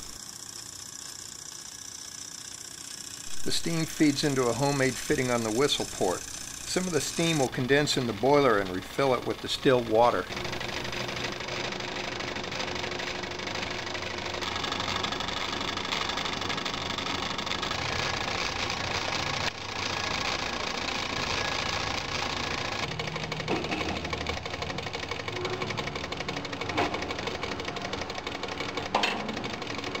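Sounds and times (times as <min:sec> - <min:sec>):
small steam engine clattering: 0:00.0 - 0:30.0.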